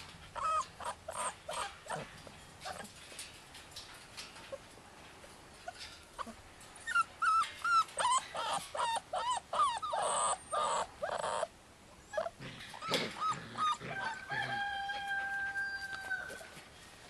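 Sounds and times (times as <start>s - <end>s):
puppies whining and yipping: 0.1s - 2.9s, 5.6s - 16.6s.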